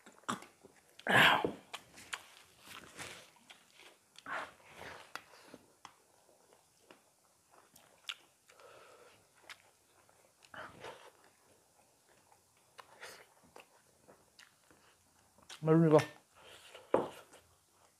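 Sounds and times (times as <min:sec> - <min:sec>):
people chewing food: 0:00.0 - 0:17.9.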